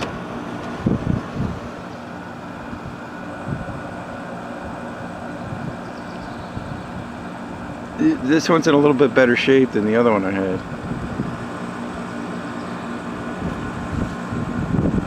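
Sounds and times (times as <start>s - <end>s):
air conditioner fan rushing: 0.0s - 15.0s
compressor hum: 0.0s - 15.0s.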